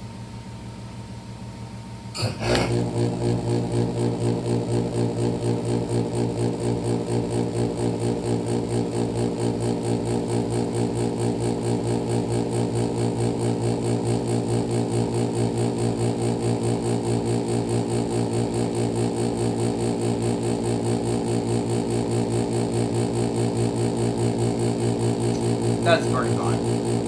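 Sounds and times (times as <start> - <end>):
heat pump humming and pulsing: 0.0 - 27.0.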